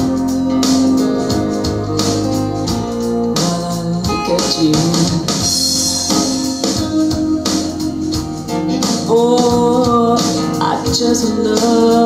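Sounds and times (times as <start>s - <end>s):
pop-rock song over loudspeakers: 0.0s - 12.0s.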